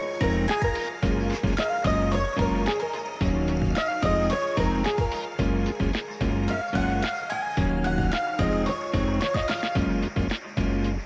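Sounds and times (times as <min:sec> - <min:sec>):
melody over pulsing bass: 0:00.0 - 0:11.0.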